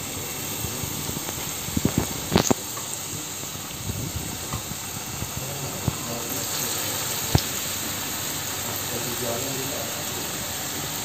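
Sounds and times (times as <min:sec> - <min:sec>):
fritters sizzling in oil: 0:00.0 - 0:11.0.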